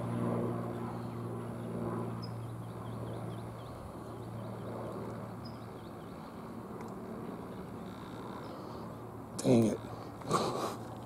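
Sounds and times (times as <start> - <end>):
airplane engine droning overhead: 0.0 - 11.0.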